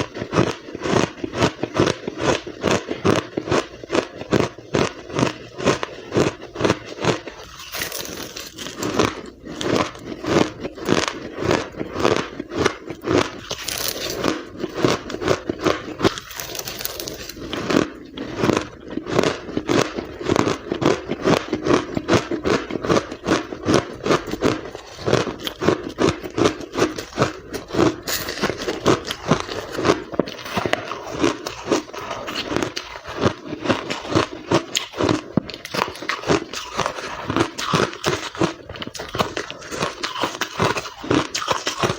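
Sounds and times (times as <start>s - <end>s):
ice being chewed: 0.0s - 41.9s.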